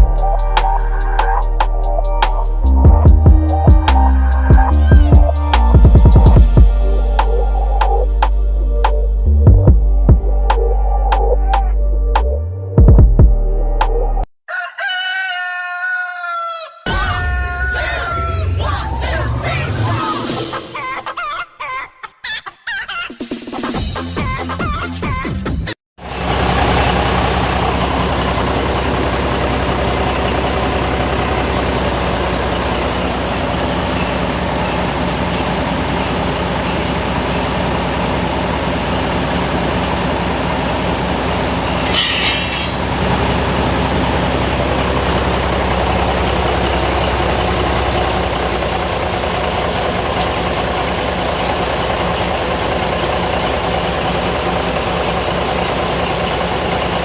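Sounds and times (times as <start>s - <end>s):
diesel engine running: 0.0s - 13.8s, 17.1s - 20.7s, 26.0s - 57.0s.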